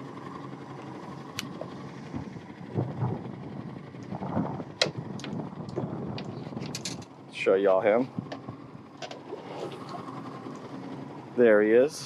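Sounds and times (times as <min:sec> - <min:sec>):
fishing boat engine rumble: 0:00.0 - 0:12.0.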